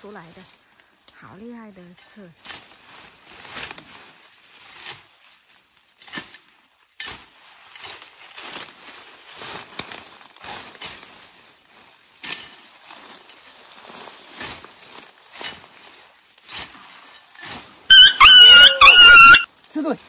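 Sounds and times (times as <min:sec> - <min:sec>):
rustling leaves and stems: 0:00.0 - 0:20.0.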